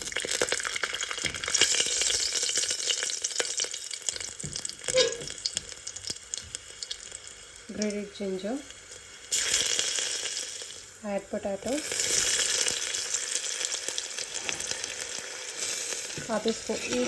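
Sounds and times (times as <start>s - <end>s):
spices sizzling and crackling in oil: 0.0s - 17.0s.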